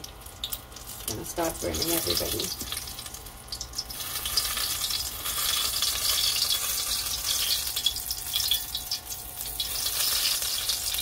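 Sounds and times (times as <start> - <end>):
deep-frying sizzle and pops: 0.0 - 11.0.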